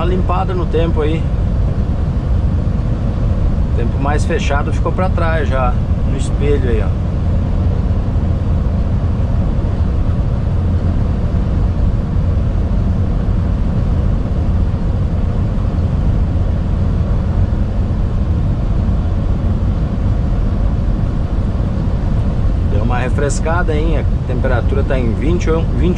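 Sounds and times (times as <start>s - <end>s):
diesel engine drone: 0.0s - 25.9s.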